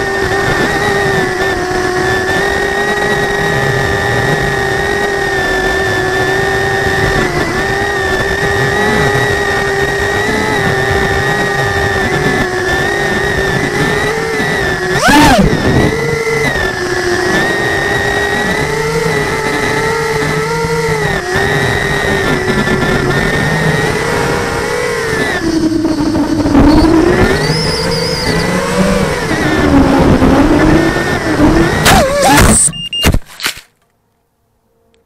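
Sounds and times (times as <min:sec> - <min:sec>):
drone motors whining: 0:00.0 - 0:33.6.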